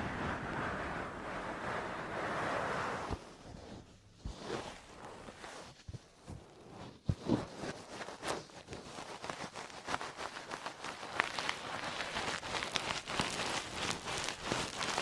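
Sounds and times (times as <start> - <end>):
towel rubbing on microphone: 0.0 - 15.0.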